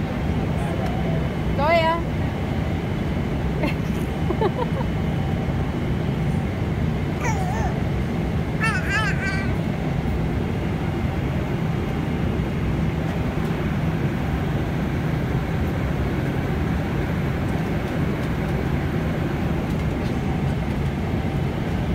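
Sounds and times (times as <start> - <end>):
airliner cabin rumble: 0.0 - 21.9.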